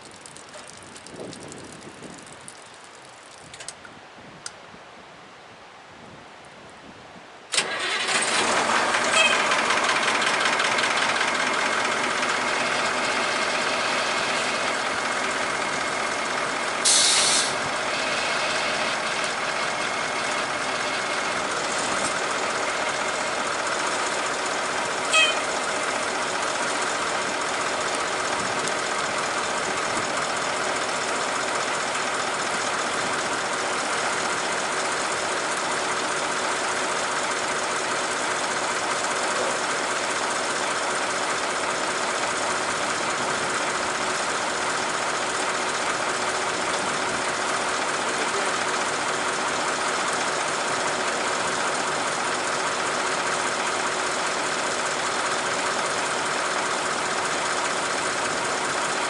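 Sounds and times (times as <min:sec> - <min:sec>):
water pump pumping: 0:00.0 - 0:03.5, 0:07.6 - 0:59.0
fire engine running: 0:00.0 - 0:03.8, 0:07.5 - 0:59.0.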